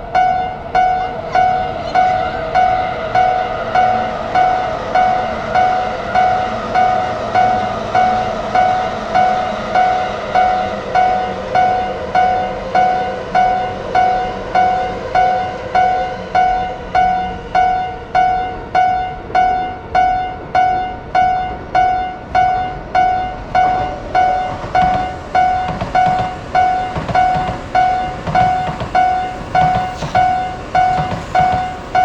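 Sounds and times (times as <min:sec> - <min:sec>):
railroad crossing alarm bell: 0:00.0 - 0:32.0.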